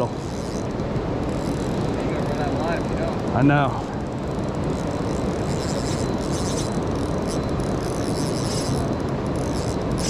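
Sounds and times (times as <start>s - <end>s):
river current rushing: 0.0s - 10.0s.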